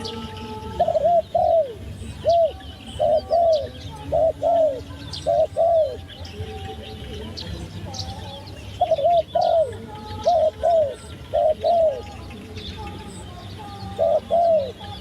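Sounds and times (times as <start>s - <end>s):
dove cooing: 0.0s - 15.0s
small birds chirping: 0.0s - 15.0s.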